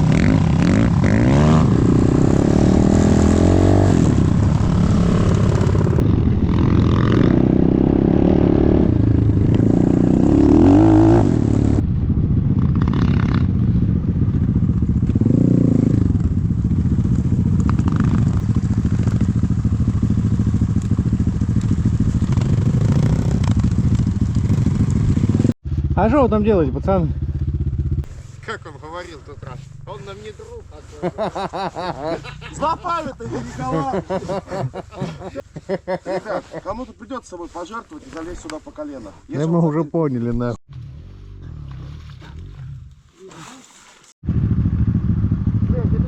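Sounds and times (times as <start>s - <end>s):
dirt bike engine revving: 0.0s - 11.8s, 12.4s - 35.4s, 40.7s - 46.0s.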